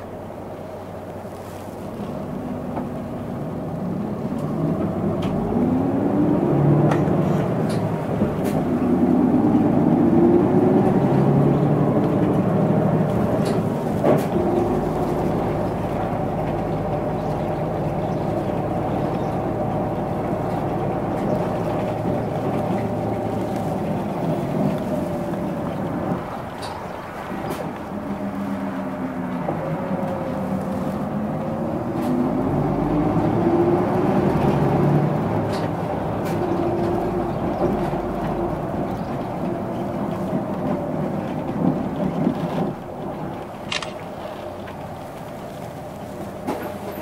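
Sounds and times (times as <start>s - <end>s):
bus engine accelerating: 0.0s - 47.0s.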